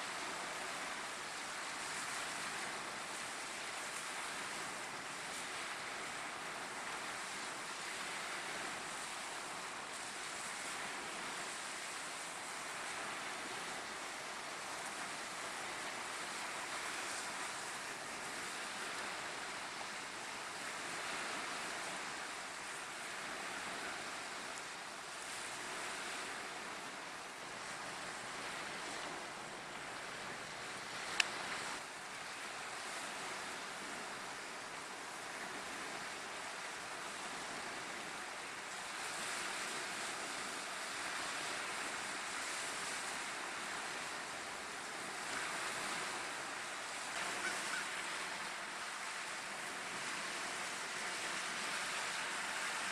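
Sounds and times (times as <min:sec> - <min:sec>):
waves breaking on shore: 0:00.0 - 0:52.9.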